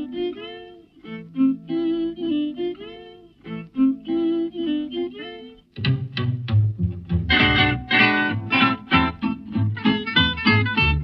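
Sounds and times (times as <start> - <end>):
plucked-string melody: 0.0 - 11.0.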